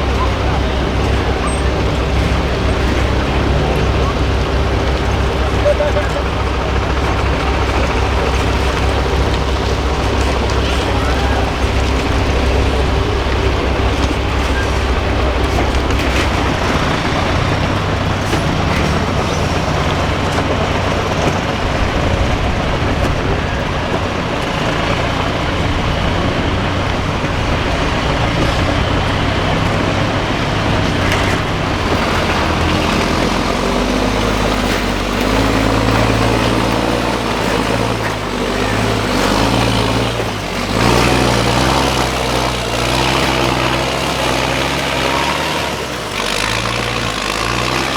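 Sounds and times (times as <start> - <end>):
truck diesel engine under load: 0.0 - 47.9.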